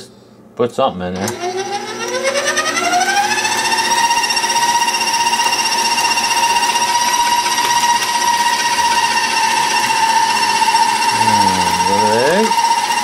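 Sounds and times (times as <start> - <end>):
stand mixer motor whining: 1.2 - 13.0.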